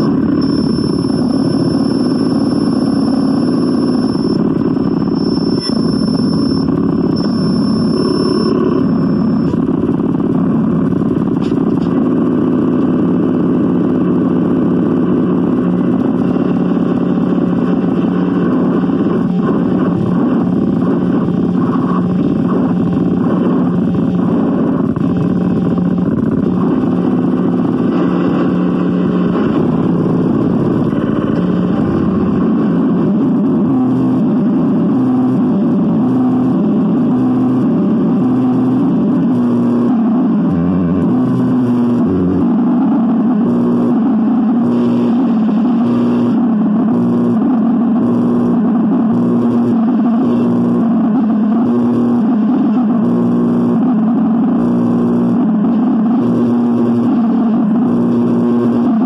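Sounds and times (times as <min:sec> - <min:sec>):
distorted rumble and hiss: 0:00.0 - 0:59.0.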